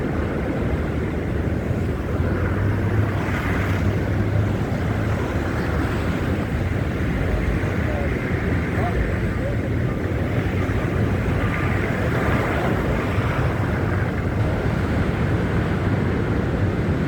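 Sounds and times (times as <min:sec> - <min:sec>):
low rumble of traffic: 0:00.0 - 0:17.0
wind noise on microphone: 0:00.0 - 0:17.0.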